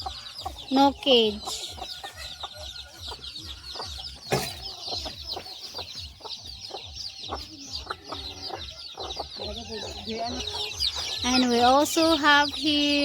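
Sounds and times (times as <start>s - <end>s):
chickens clucking: 0.0s - 13.0s
chicks peeping: 0.0s - 13.0s.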